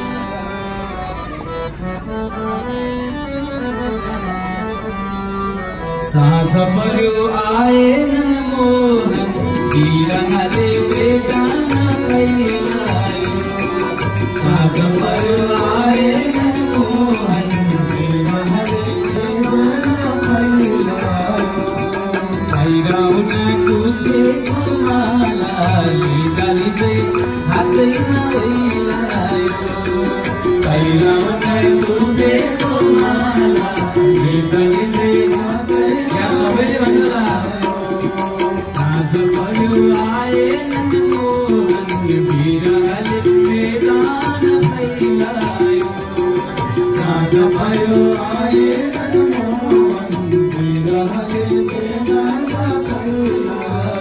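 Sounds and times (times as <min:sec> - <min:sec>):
tabla beat: 0:06.0 - 0:54.0
rattling percussion: 0:09.0 - 0:54.0.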